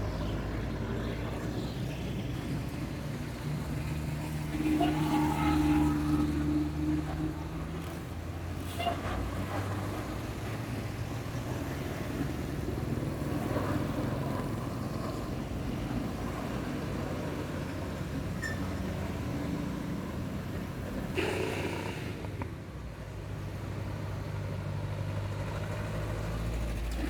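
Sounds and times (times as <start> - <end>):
traffic engines rumbling: 0.0 - 27.0.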